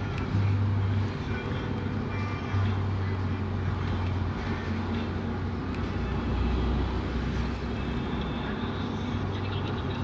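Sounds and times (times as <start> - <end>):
road noise: 0.0 - 10.0
vehicle engine drone: 0.0 - 10.0.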